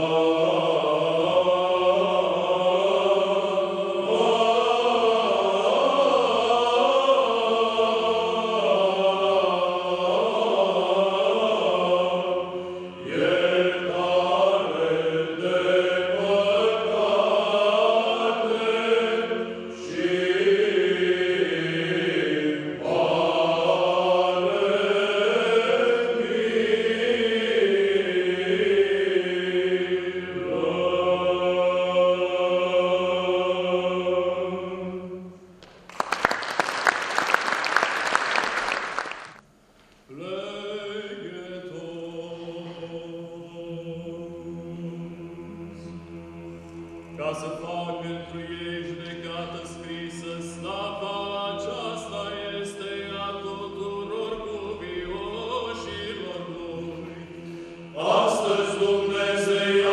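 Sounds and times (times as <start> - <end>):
male choir chanting: 0.0 - 35.3, 40.1 - 59.9.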